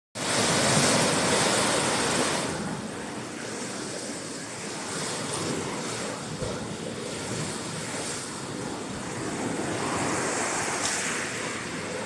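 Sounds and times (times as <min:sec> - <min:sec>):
waves breaking on rocks: 0:00.2 - 0:12.0.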